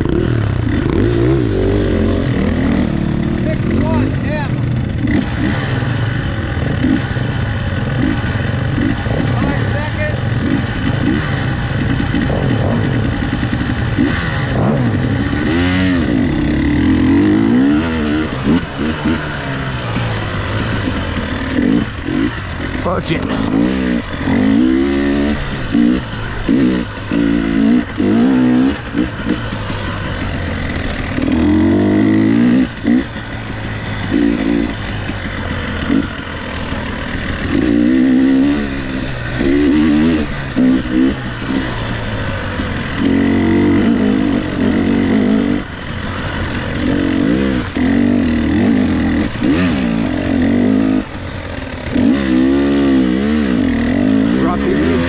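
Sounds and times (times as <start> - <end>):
two-stroke dirt bike engine revving: 0.0 - 55.0.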